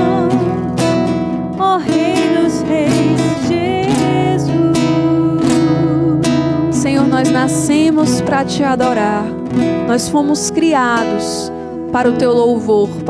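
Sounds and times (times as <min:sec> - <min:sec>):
acoustic guitar strumming: 0:00.0 - 0:13.0
person singing: 0:00.0 - 0:13.0.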